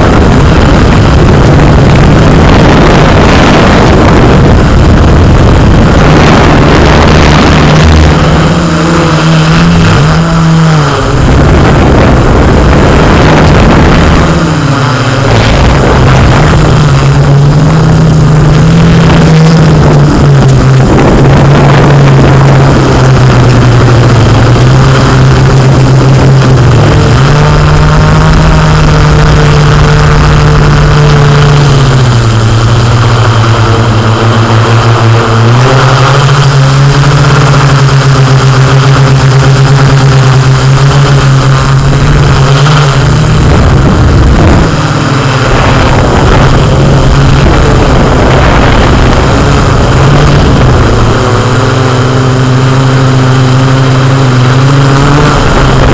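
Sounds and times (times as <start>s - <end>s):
loud rushing noise: 0.0s - 55.9s
quadcopter propellers humming: 0.0s - 55.9s.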